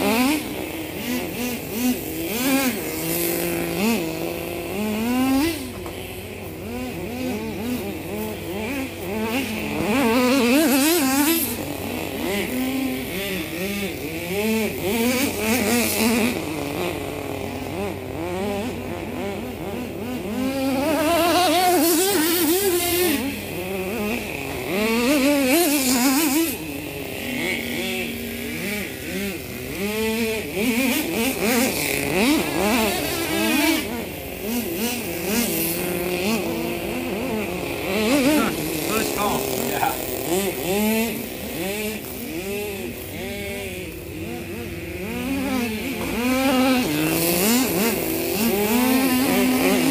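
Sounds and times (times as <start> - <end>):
rc truck engine revving: 0.0 - 49.9.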